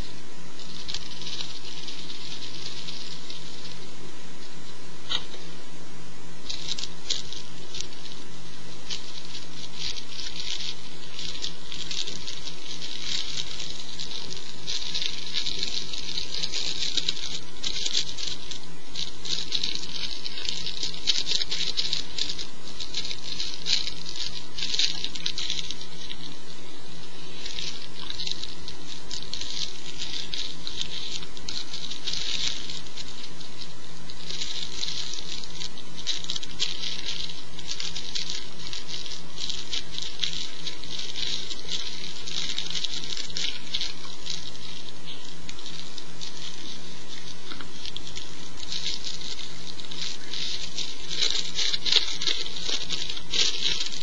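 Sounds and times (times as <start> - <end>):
rolling paper rustling: 0.0 - 5.5, 6.3 - 54.0
electrical hum: 0.0 - 54.0.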